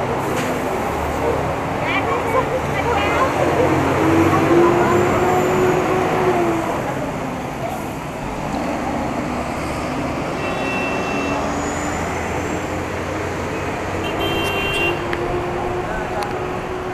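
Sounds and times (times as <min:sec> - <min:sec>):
street traffic with engines running: 0:00.0 - 0:16.9.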